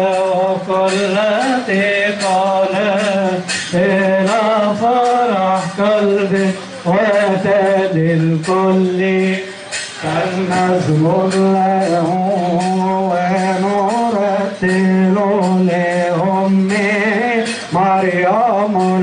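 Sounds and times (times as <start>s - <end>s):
light percussion strikes: 0.0s - 19.0s
men chanting a hymn: 0.0s - 19.0s.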